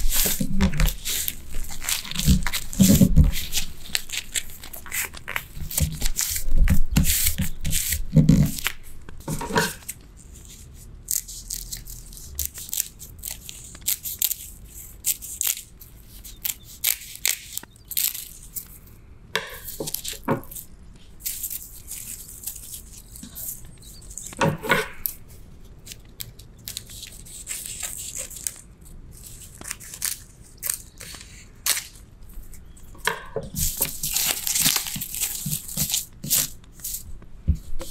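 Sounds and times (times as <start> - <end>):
nori sheets crackling as torn: 0.0 - 18.8, 19.6 - 32.8, 33.6 - 37.1.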